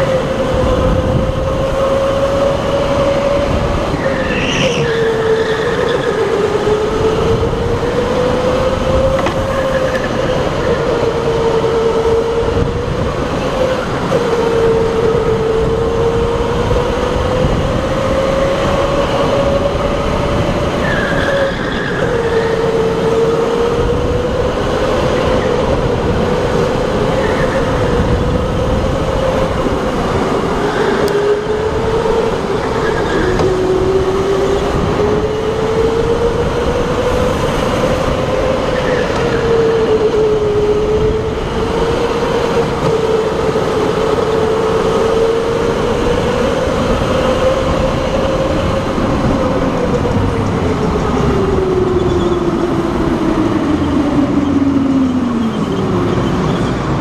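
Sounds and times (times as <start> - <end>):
electric go-kart motor whining: 0.0 - 57.0
rumbling tyre and chassis noise: 0.0 - 57.0.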